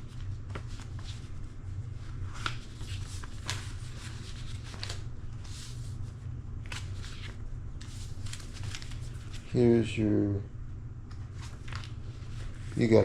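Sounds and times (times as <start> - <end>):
paper leaflets rustling: 0.0 - 9.6, 11.1 - 13.0
steady low hum: 0.0 - 13.0.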